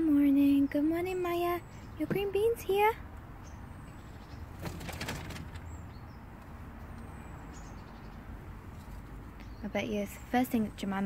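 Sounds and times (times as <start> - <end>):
low steady background rumble: 0.0 - 11.0.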